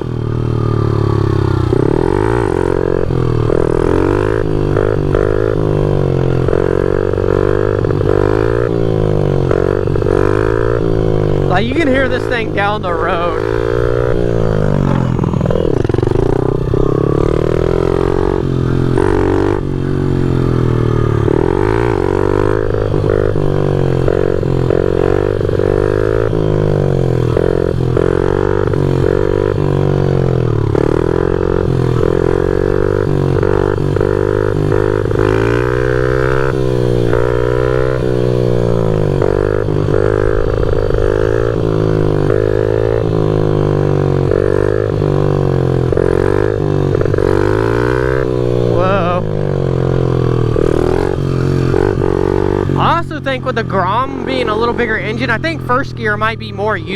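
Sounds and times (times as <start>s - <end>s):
pit bike engine revving: 0.0s - 56.9s.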